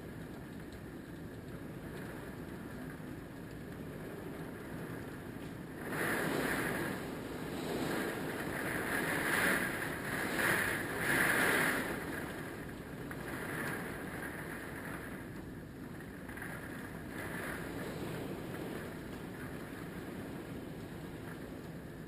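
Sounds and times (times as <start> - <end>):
wind rushing in gusts: 0.0 - 22.0.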